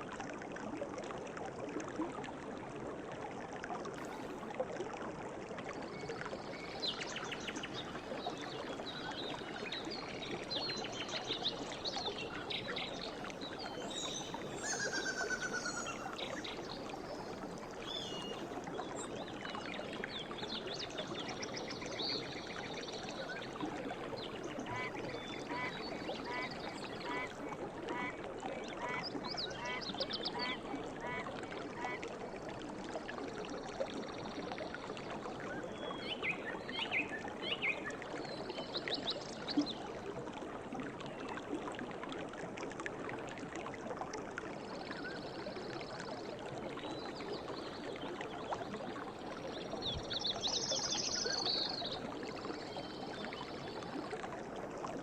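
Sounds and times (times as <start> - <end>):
river water babbling: 0.0 - 55.0.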